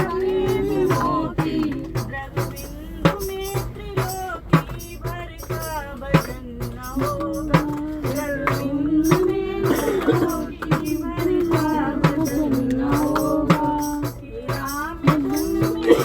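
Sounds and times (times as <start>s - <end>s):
hand percussion beat: 0.0s - 16.0s
person singing devotional song: 0.0s - 16.0s.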